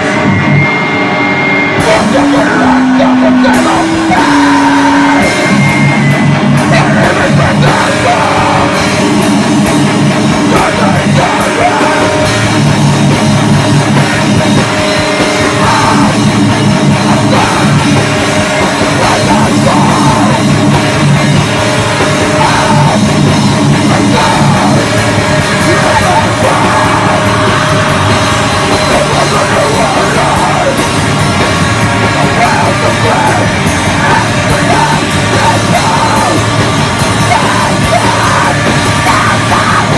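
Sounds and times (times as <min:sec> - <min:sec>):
bass guitar: 0:00.0 - 0:39.9
distorted electric guitar: 0:00.0 - 0:39.9
drum kit: 0:00.0 - 0:39.9.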